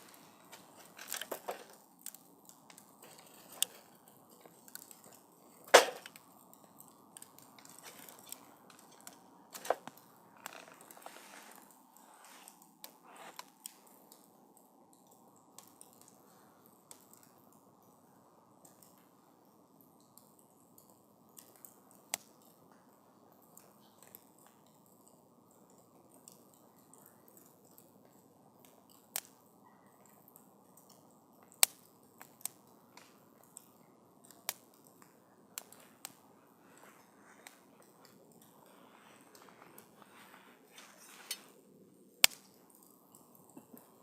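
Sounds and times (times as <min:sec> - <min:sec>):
campfire crackling: 0:00.0 - 0:44.0.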